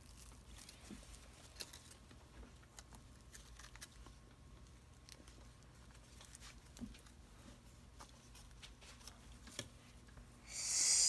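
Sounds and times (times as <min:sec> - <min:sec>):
doll handling clicks and rustles: 0:00.0 - 0:10.2.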